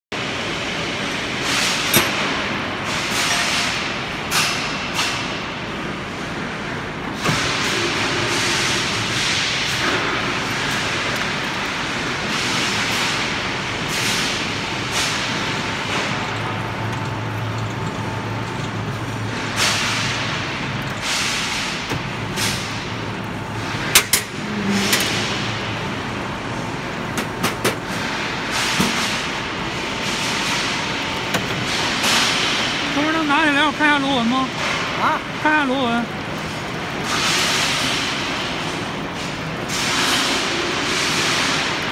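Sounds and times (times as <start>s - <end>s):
thread rolling machine running: 7.1s - 41.9s.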